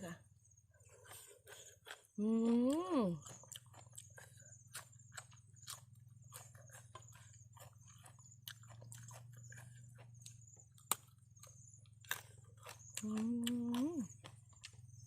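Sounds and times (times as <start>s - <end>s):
chewing with mouth clicks: 0.8s - 15.0s.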